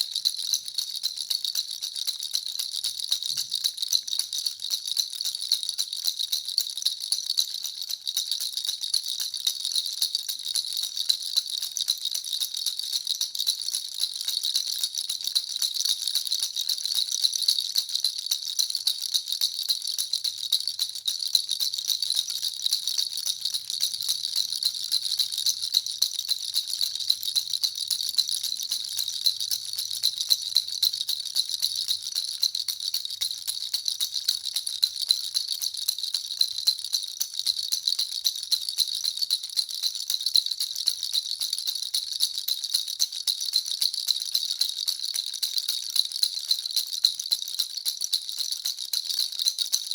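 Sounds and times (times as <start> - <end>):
baby rattle jingling: 0.0 - 49.9.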